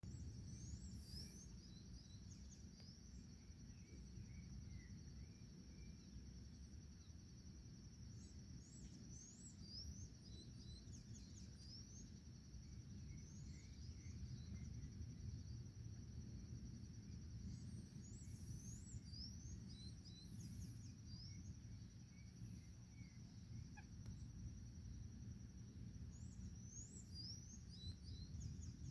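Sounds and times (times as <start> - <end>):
high insect trill: 0.0 - 28.9.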